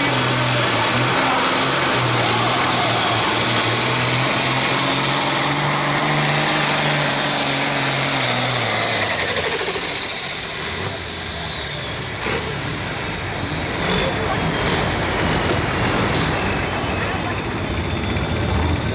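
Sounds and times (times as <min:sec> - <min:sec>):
diesel tractor engine at full throttle: 0:00.0 - 0:18.9
turbocharger whistle: 0:00.4 - 0:15.6.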